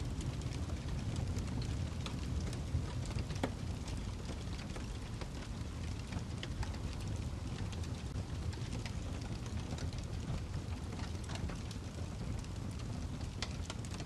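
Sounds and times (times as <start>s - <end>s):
fire crackles and pops: 0.0s - 14.0s
fireplace fire rumbling: 0.0s - 14.0s.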